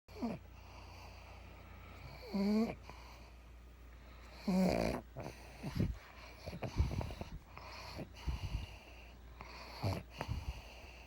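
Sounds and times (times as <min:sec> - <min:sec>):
dog snoring: 0:00.1 - 0:01.4, 0:02.0 - 0:03.4, 0:04.3 - 0:11.0.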